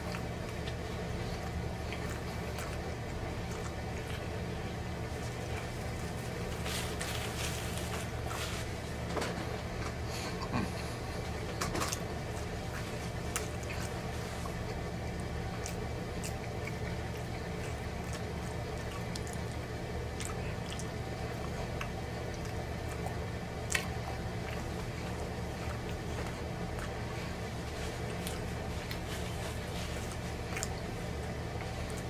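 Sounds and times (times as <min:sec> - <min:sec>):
low steady hum: 0:00.0 - 0:32.0
man chewing food: 0:00.0 - 0:32.0.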